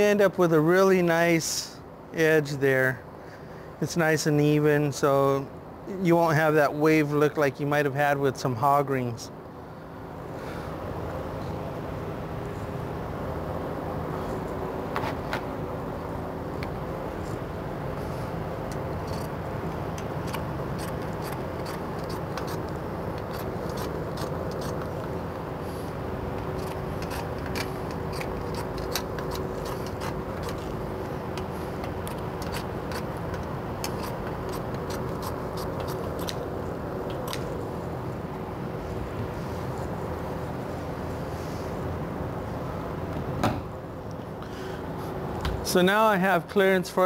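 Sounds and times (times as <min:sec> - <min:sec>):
shop background hum: 0:00.0 - 0:47.0.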